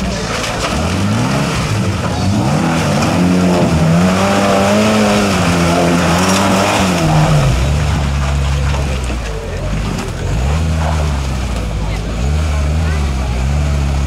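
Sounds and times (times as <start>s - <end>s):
off-road vehicle engine revving: 0.0s - 14.0s
tyres churning through mud: 0.0s - 14.0s.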